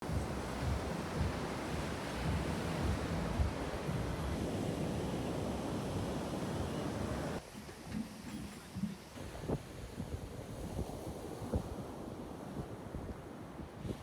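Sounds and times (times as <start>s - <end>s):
wind buffeting microphone: 0.0s - 7.4s, 8.7s - 14.0s
sea surf washing on beach: 0.0s - 14.0s.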